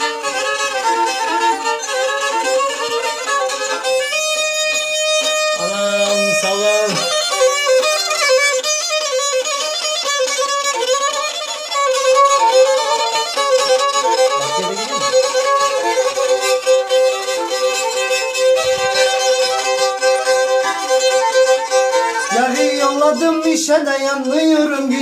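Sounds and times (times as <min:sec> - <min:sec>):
bowed fiddle folk melody: 0:00.0 - 0:25.0.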